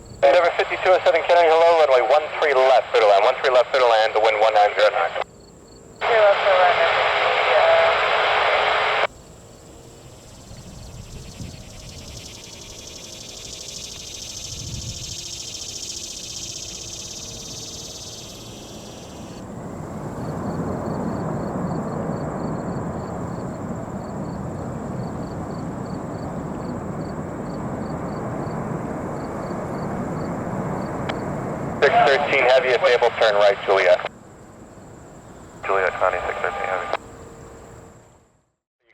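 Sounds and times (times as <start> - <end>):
jet engines rumbling: 0.0 - 5.2, 6.0 - 38.1
insects chirping: 0.0 - 38.3.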